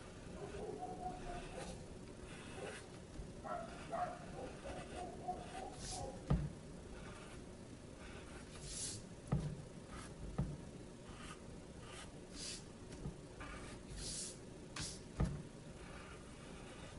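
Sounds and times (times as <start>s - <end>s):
pencil scratching on paper: 0.0s - 9.0s, 9.9s - 10.2s, 11.0s - 12.7s, 13.4s - 15.0s, 15.8s - 16.9s.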